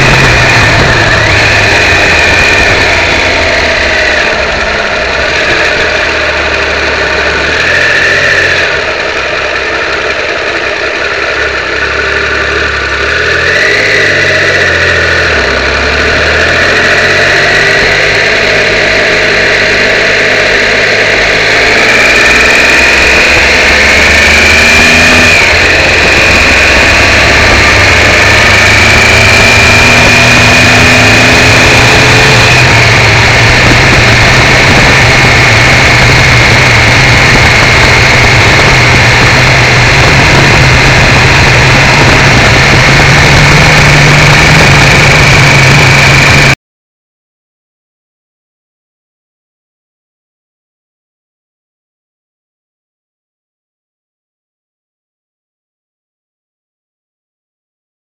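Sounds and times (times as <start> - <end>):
heavy rushing wind noise: 0.0 - 46.6
motorcycle engine running: 0.0 - 46.6.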